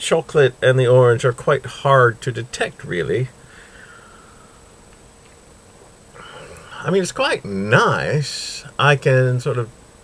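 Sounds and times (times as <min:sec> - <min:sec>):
faint electrical hum and hiss: 0:00.0 - 0:10.0.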